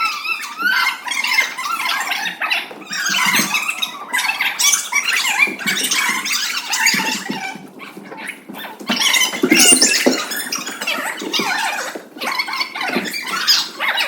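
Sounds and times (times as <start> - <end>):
children shouting and squealing: 0.0 - 14.0.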